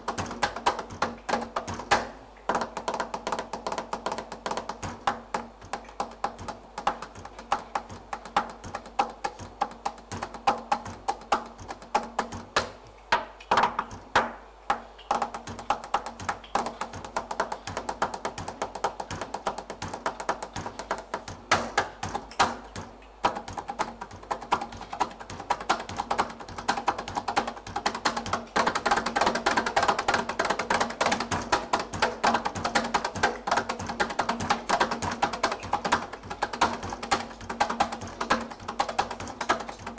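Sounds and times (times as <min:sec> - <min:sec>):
goblet drum rapid taps: 0:00.0 - 0:39.9.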